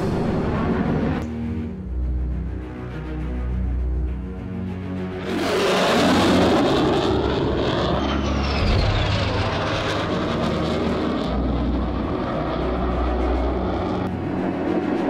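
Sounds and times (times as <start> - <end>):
airplane passing low overhead: 0.0 - 15.0.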